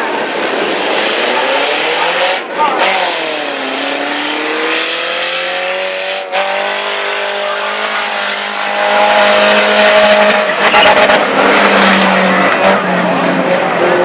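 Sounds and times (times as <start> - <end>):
race car engines accelerating: 0.0 - 14.0.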